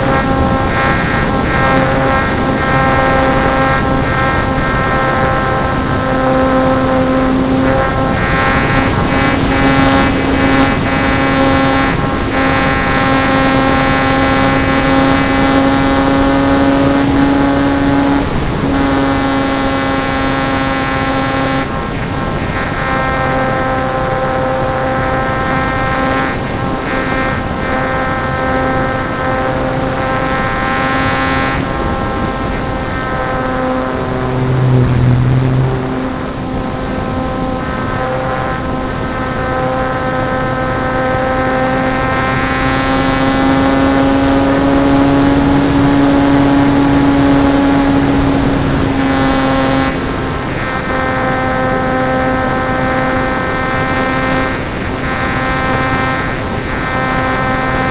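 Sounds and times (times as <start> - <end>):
rc plane motor whine: 0.0 - 57.9.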